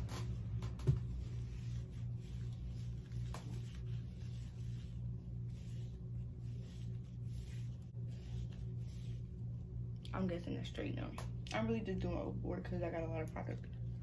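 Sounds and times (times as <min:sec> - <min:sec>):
squishing and rustling hair: 0:00.0 - 0:12.2
steady low hum: 0:00.0 - 0:14.0.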